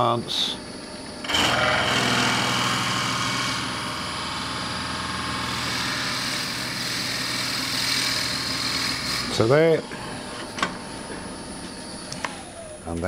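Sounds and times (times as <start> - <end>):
wood lathe motor humming: 1.0 - 13.0.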